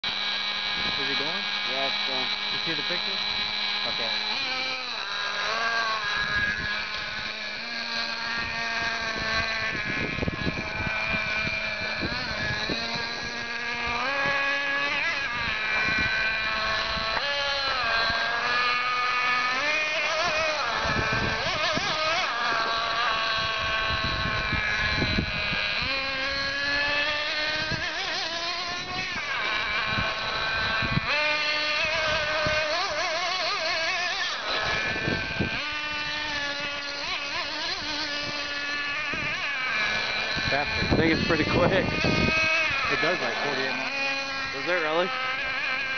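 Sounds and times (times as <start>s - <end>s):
model car motor whining: 0.0s - 45.9s.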